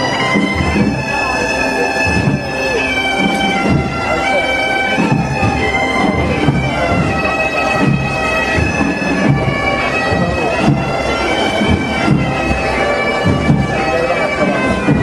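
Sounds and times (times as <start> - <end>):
bagpipes playing a melody: 0.0 - 15.0.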